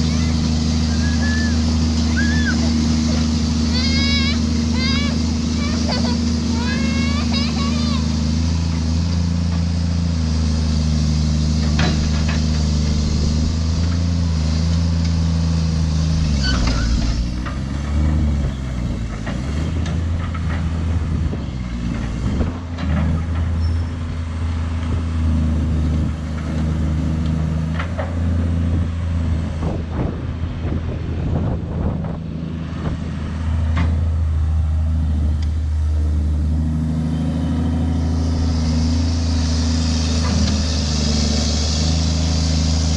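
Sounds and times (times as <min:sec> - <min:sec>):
heavy vehicle engine running: 0:00.0 - 0:42.9.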